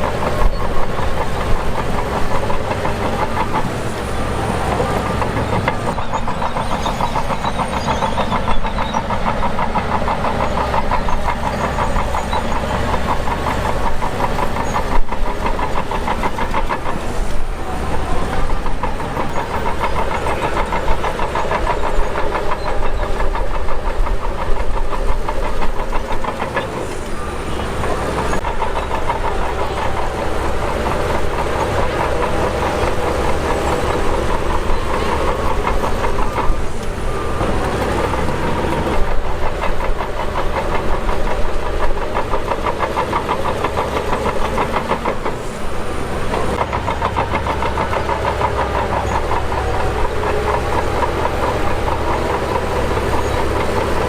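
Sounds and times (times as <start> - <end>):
bulldozer diesel engine running: 0.0 - 54.0
steel tracks rattling: 0.0 - 54.0.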